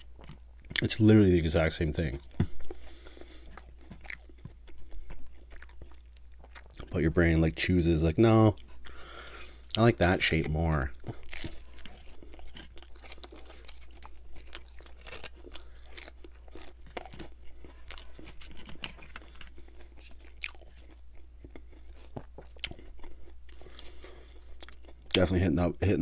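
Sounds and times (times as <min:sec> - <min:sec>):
crunchy chewing: 0:00.0 - 0:07.0, 0:08.3 - 0:25.2.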